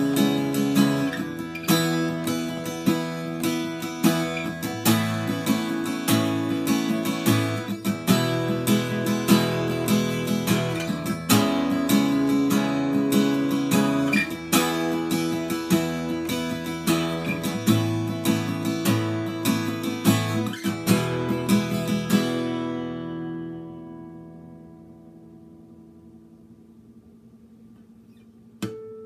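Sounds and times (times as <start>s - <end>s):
acoustic guitar strummed chords: 0.0s - 29.0s.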